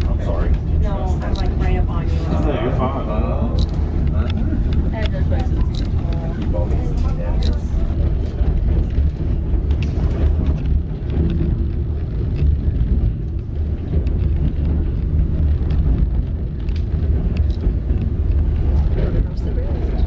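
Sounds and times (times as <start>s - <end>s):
light clicks and rattles: 0.0s - 20.0s
train rumbling: 0.0s - 20.0s.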